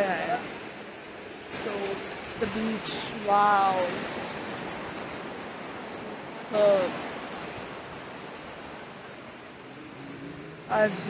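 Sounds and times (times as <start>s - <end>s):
small waves breaking on beach: 0.0s - 11.0s.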